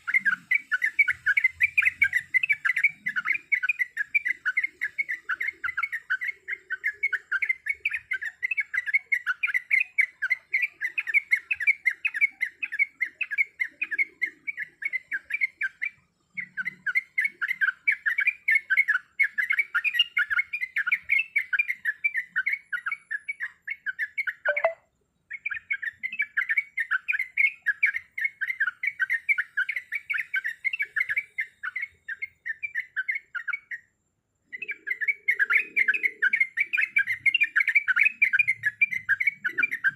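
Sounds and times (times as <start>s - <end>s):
bulbul singing rapid chirps: 0.0s - 39.9s.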